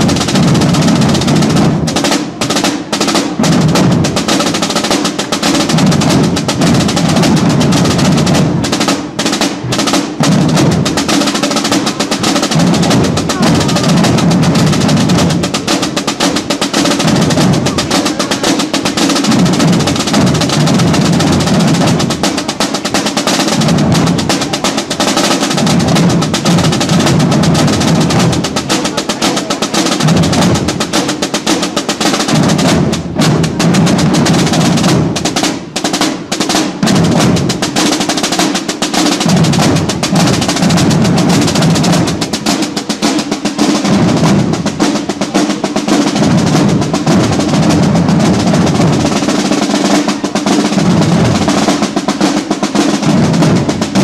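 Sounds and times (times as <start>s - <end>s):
snare drums playing marching rhythm: 0.0s - 54.0s.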